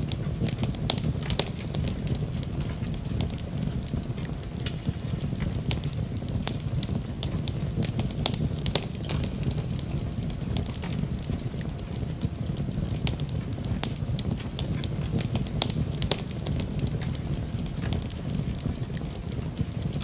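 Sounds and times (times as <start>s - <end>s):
burning wood crackling and popping: 0.0s - 20.0s
low roar of flames: 0.0s - 20.0s.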